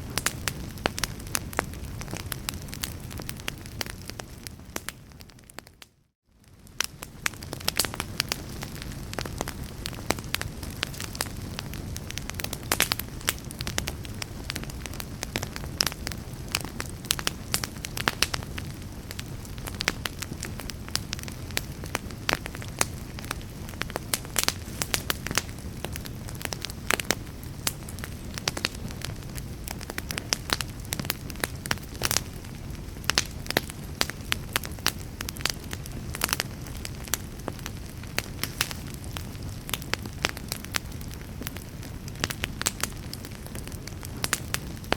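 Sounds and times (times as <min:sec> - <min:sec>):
burning logs crackling and popping: 0:00.0 - 0:44.9
fire rumbling: 0:00.0 - 0:44.9.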